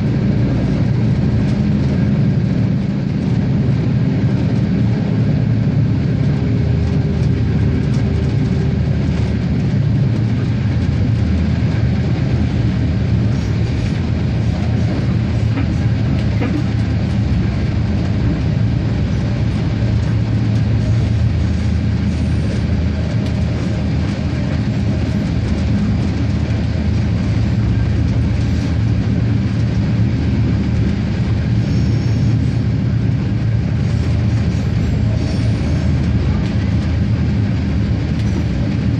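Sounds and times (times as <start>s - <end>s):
diesel railcar engine drone: 0.0s - 38.9s
wheels rumbling on rails: 0.0s - 38.9s.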